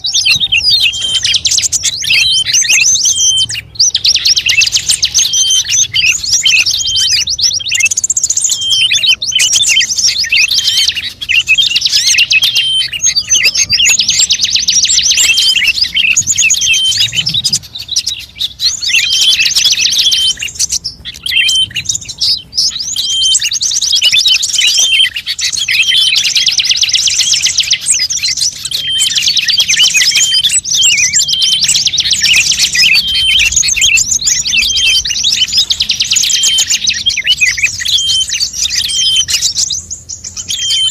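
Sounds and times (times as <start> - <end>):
songbird chirping and twittering: 0.0 - 40.9.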